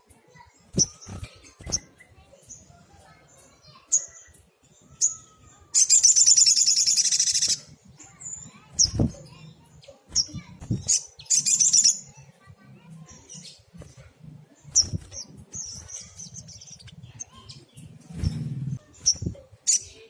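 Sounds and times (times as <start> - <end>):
bird chirping and twittering: 0.0 - 20.0.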